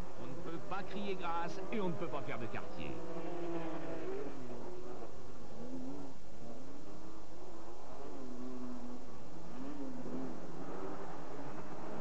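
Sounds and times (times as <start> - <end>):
truck engines revving: 0.0 - 12.0.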